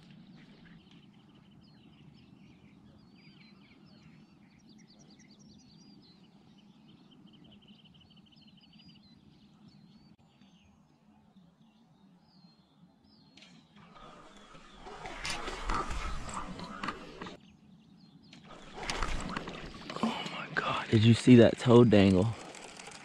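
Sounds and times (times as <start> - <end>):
faint birdsong: 0.0 - 23.0.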